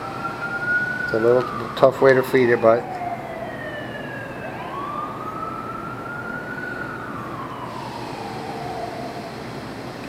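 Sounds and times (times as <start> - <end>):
distant siren wailing: 0.0 - 10.0
steady background noise: 0.0 - 10.0.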